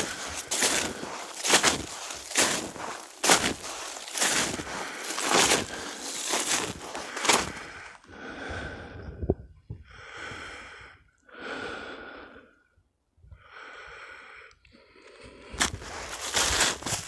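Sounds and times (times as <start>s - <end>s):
person breathing heavily: 0.0s - 12.7s, 13.3s - 17.0s.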